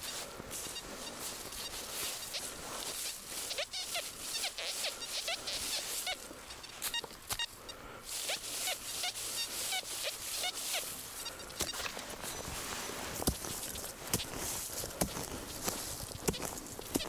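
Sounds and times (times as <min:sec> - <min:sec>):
footsteps squeaking in snow: 0:00.0 - 0:17.0.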